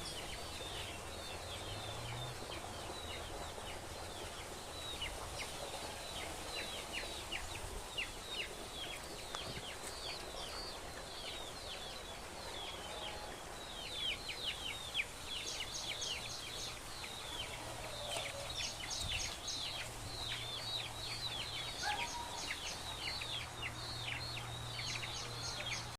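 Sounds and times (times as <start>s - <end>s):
chicks peeping: 0.0s - 25.9s.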